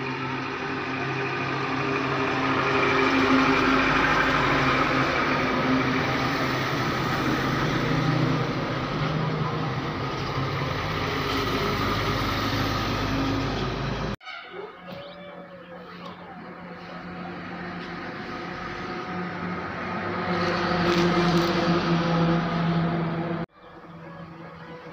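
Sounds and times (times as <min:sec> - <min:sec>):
trucks driving past: 0:00.0 - 0:14.2, 0:15.3 - 0:24.9
tyre and road noise: 0:00.0 - 0:24.9.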